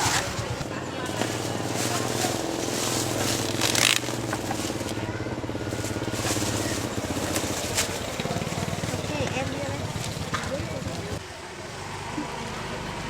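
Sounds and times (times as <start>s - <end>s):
small engine humming: 0.0s - 13.0s.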